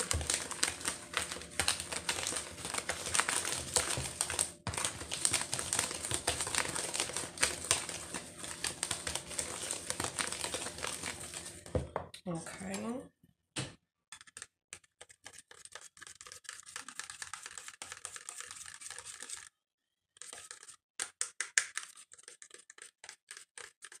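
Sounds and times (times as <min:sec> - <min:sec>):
whisk scraping flour in plastic bowl: 0:00.0 - 0:11.8, 0:14.2 - 0:19.5, 0:20.2 - 0:24.0.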